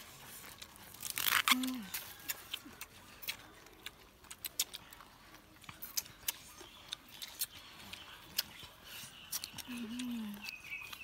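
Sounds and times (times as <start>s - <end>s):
chewing crunches: 0.0s - 11.0s
fingers picking through food: 0.0s - 11.0s.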